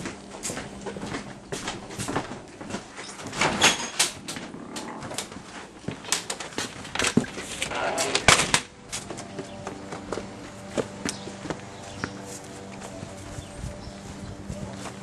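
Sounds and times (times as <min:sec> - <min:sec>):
footsteps in a house: 0:00.0 - 0:07.7, 0:08.8 - 0:15.0.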